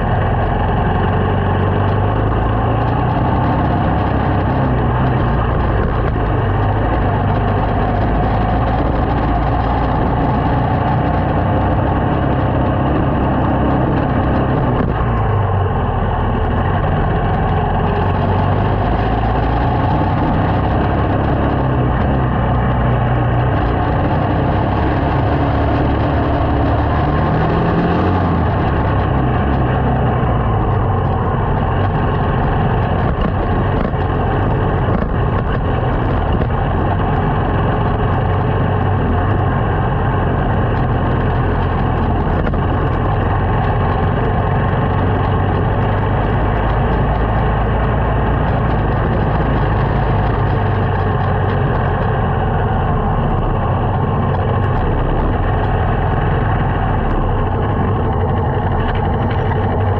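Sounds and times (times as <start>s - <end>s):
small motorcycle engine running: 0.0s - 59.9s
wind and road noise: 0.0s - 59.9s.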